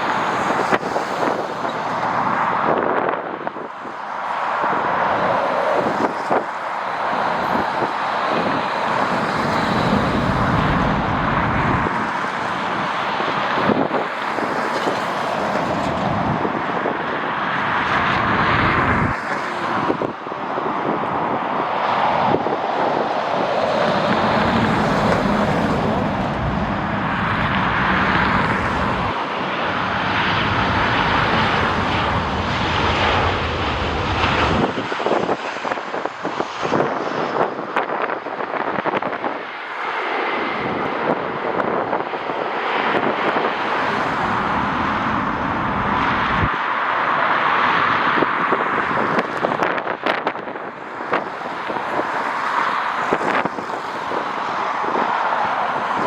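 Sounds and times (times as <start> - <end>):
jet airliner engines: 0.0 - 56.0
wind buffeting microphone: 0.0 - 56.0.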